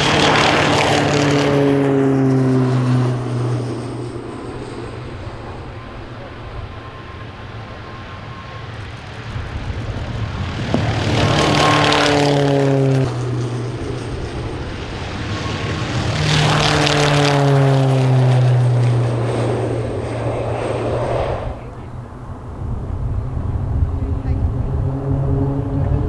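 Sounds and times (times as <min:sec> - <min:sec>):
turboprop plane passing: 0:00.0 - 0:26.0.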